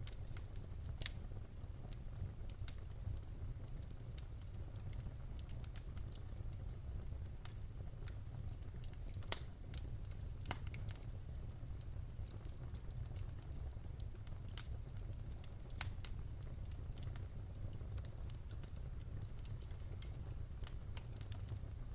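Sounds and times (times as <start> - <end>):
low rumble of flames: 0.0 - 21.9
wood fire crackling and popping: 0.0 - 21.9.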